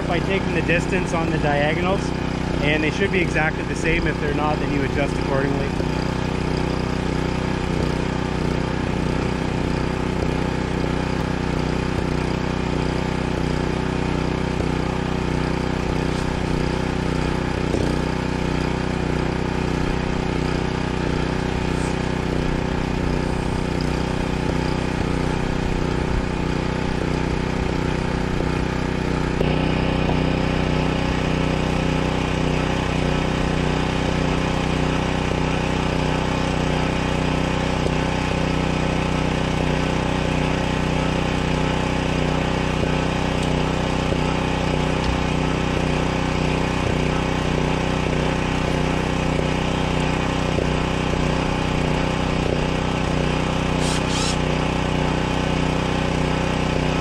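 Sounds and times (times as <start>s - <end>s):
generator engine running: 0.0s - 57.0s.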